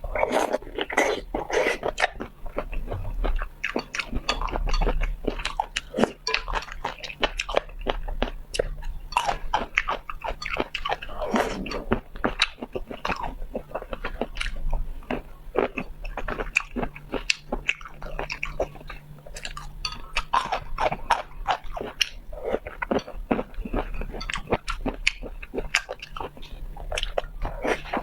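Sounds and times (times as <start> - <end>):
chewing and biting food: 0.1 - 28.0.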